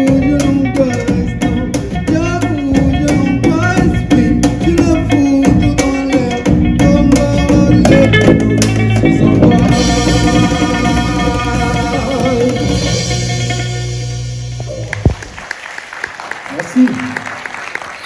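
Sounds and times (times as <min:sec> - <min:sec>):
drum beat: 0:00.0 - 0:13.7, 0:14.5 - 0:15.4
live band playing: 0:00.0 - 0:18.0.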